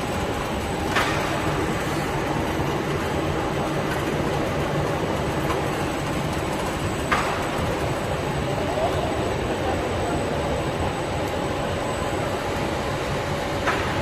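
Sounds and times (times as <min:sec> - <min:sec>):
roller conveyor rumbling: 0:00.0 - 0:14.0.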